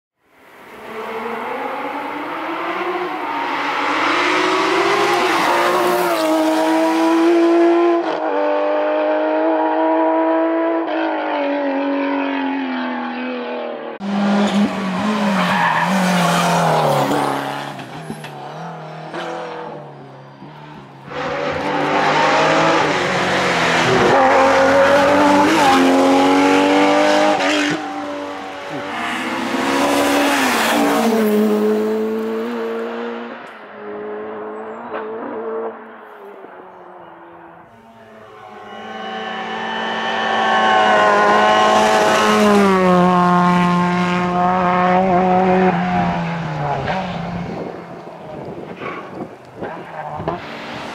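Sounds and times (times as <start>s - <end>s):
rally car engines revving: 0.5s - 50.9s.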